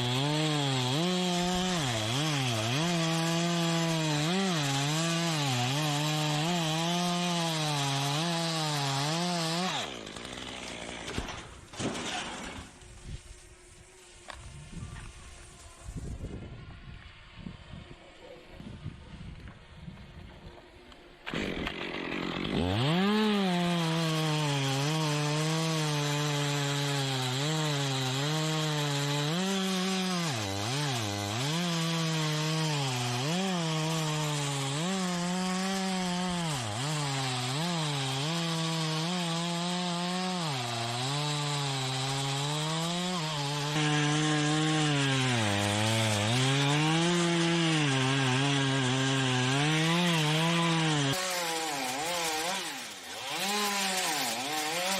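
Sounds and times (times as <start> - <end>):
chainsaw cutting wood: 0.0 - 18.0, 18.8 - 54.9.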